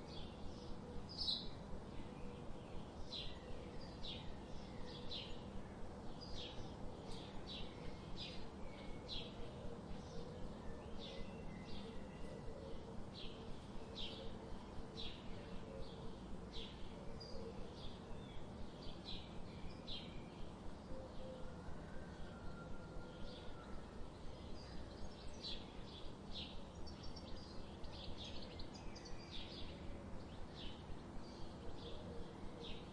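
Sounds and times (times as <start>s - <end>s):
steady low background noise: 0.0s - 32.9s.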